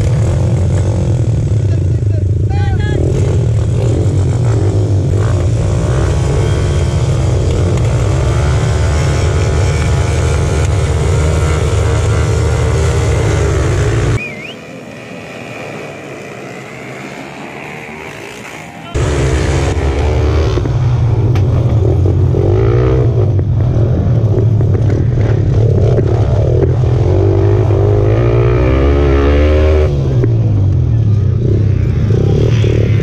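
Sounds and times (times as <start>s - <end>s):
motorcycle engines revving: 0.0s - 33.0s
motorcycle riding on track: 0.0s - 33.0s.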